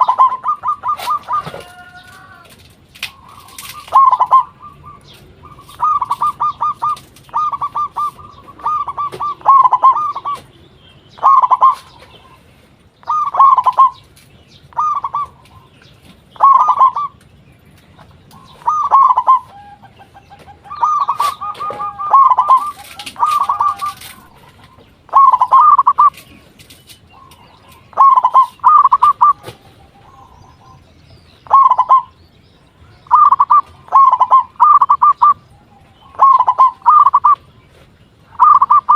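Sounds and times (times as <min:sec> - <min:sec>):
dove cooing: 0:00.0 - 0:14.1, 0:14.7 - 0:15.7, 0:16.4 - 0:17.2, 0:18.0 - 0:38.9.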